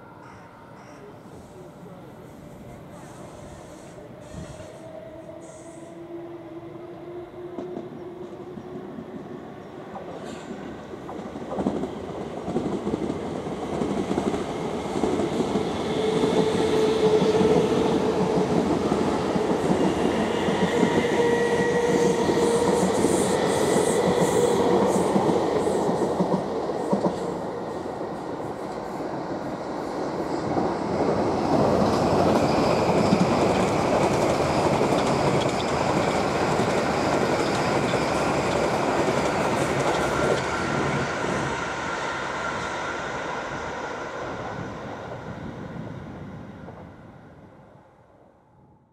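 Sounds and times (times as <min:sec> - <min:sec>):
train rumbling past: 0:00.0 - 0:48.2.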